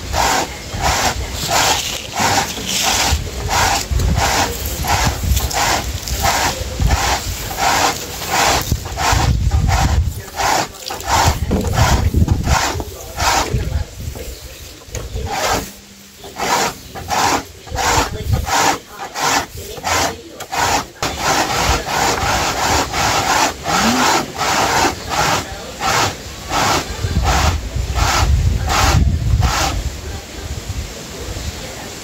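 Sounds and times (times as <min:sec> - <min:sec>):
corn cob scraping on metal grater: 0:00.0 - 0:29.8.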